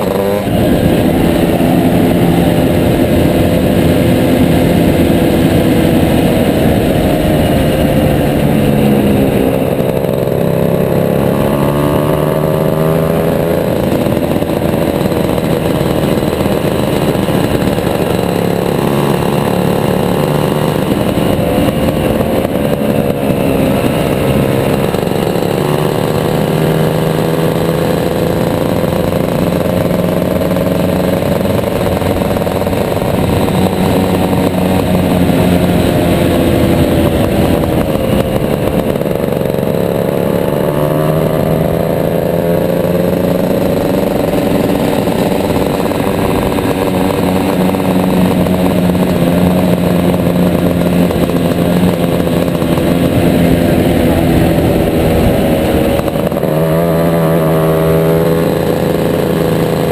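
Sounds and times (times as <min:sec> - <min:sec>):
racing kart engine revving: 0:00.0 - 0:59.9.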